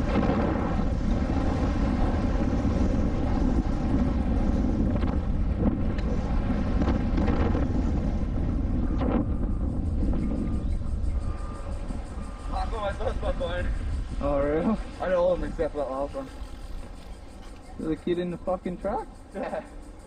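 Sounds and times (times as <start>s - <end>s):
bike tyres on dirt: 0.0s - 18.9s
wind rush on microphone: 0.0s - 20.0s.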